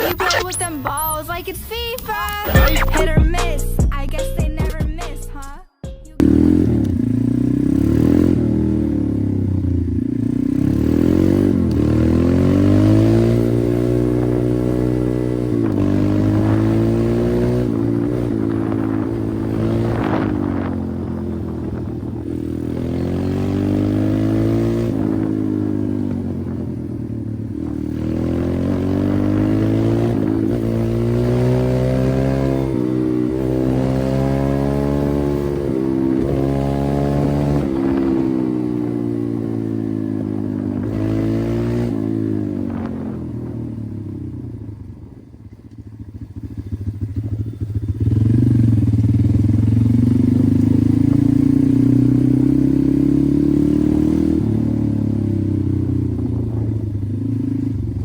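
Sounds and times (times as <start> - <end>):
pit bike engine revving: 6.2 - 44.8, 46.6 - 58.0.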